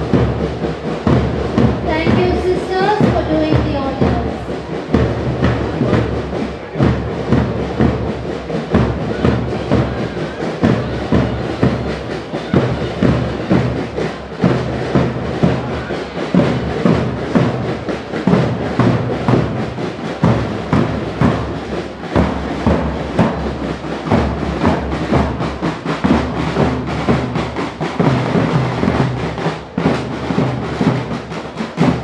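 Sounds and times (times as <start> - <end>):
marching band drums: 0.0 - 32.0.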